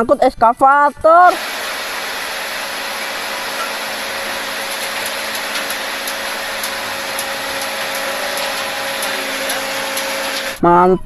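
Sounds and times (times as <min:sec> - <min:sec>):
excavator diesel engine running: 0:01.3 - 0:10.6.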